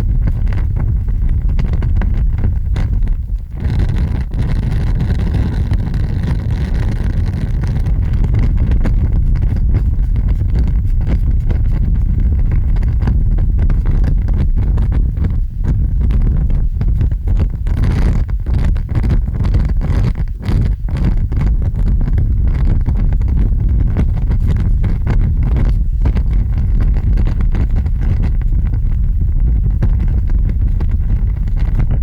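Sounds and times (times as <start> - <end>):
large fire burning: 0.0 - 32.0.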